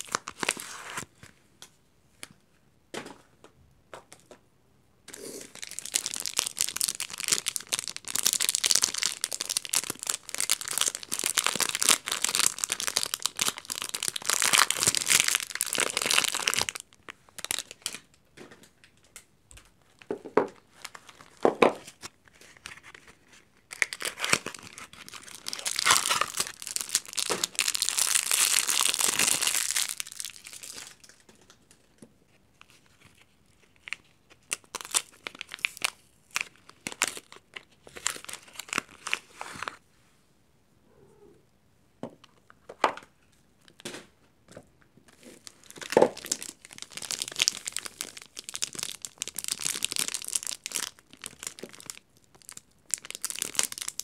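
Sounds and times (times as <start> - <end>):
plastic wrapper crinkling: 0.0 - 1.2, 5.1 - 19.2, 19.8 - 39.8, 45.1 - 54.0.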